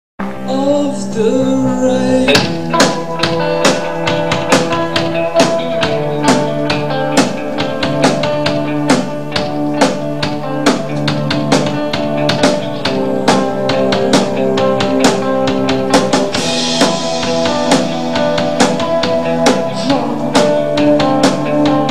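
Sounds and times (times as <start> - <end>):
bass line: 0.2 - 21.9
drum kit beat: 0.2 - 21.9
electric guitar chords: 0.2 - 21.9
keyboard chords: 0.2 - 21.9.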